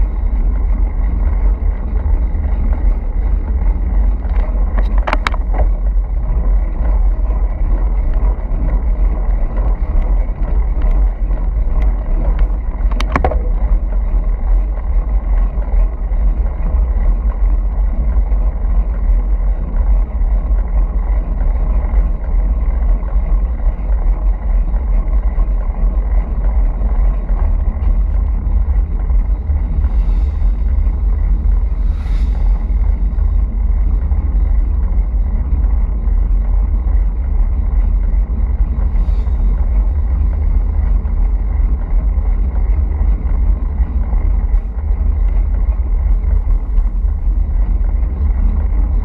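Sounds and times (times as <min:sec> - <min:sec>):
motorcycle engine drone: 0:00.0 - 0:49.0
wind rumble on microphone: 0:00.0 - 0:49.0.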